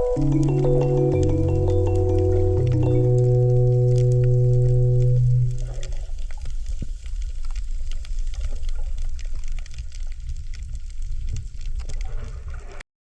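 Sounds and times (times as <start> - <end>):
fine crackling clicks: 0.0 - 12.3
underwater rumble of water: 0.0 - 12.8.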